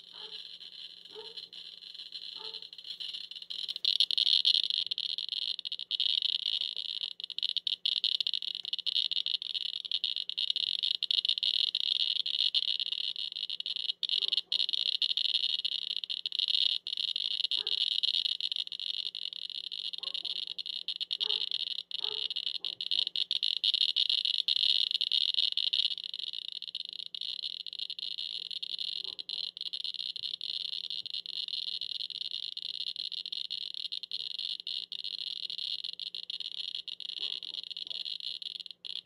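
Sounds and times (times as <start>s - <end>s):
radiation meter rapid chirping: 0.0s - 39.0s.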